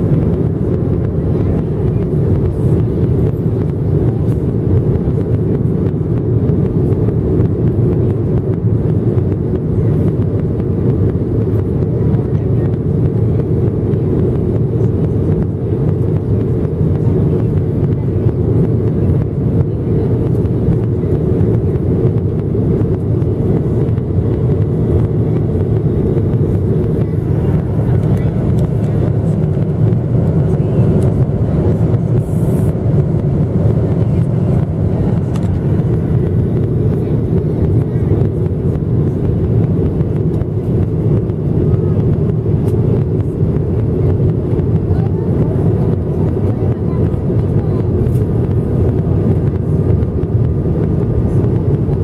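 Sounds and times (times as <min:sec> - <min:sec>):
airplane cabin engine rush: 0:00.0 - 0:52.0.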